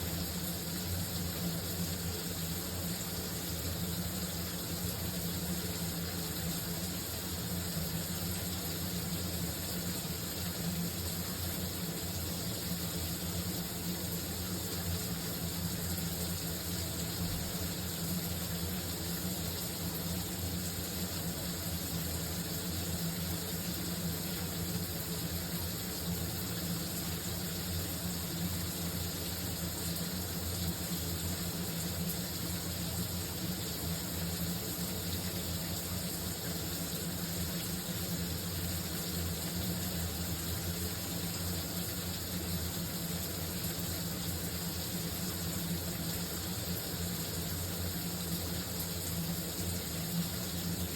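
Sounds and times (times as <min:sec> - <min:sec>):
shower water running: 0:00.0 - 0:50.9.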